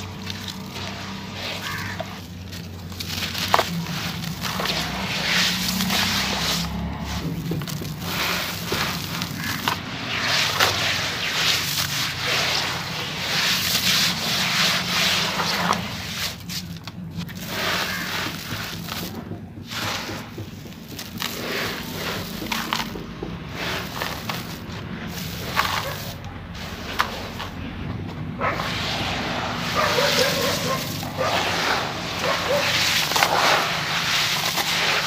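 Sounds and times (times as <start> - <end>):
hands crunching wet cement: 0.0 - 27.6, 28.3 - 35.0.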